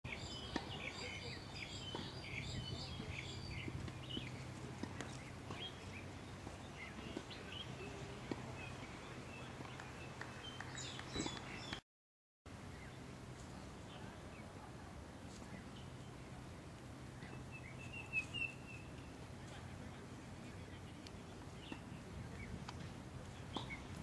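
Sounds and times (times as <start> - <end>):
low outdoor background hum: 0.1 - 11.8, 12.5 - 24.0
small birds chirping: 0.1 - 11.8, 12.6 - 24.0.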